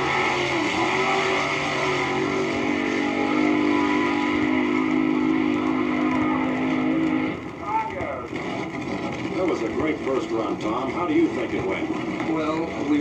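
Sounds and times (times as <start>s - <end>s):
dragster engine at full throttle: 0.0s - 13.0s.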